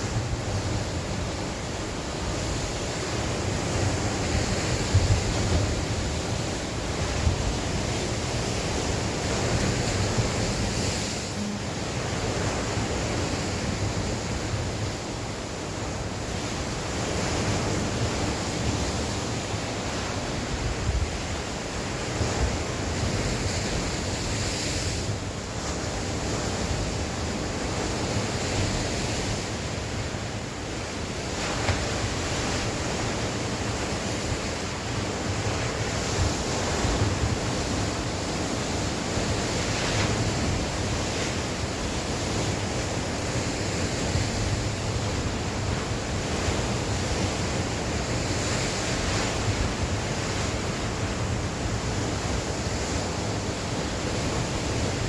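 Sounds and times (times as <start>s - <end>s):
sea waves breaking: 0.0s - 55.0s
wind buffeting the microphone: 0.0s - 55.0s.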